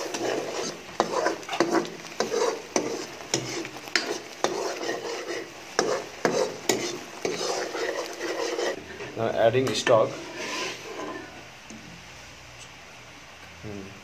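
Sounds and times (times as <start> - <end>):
spoon scraping a wok: 0.0 - 11.5
sauce sizzling: 0.0 - 12.5.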